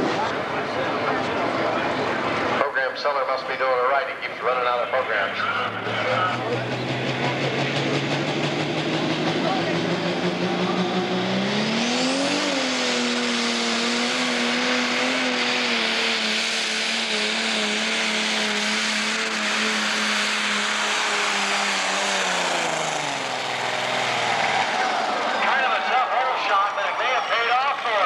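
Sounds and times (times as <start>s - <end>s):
diesel engine at full power: 0.0s - 28.0s.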